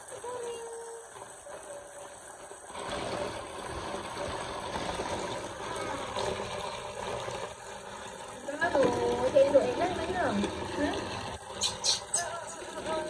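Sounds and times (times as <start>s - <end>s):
water running and splashing: 0.0s - 13.0s.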